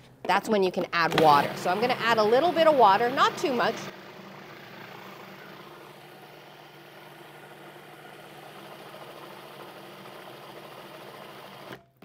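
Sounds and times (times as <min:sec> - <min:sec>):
food processor motor humming: 0:01.0 - 0:11.9.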